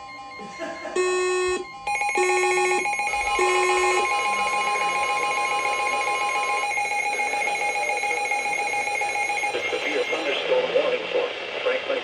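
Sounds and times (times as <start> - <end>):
buzzy beeps: 0.0 - 10.3
long steady alarm tone: 0.0 - 10.4.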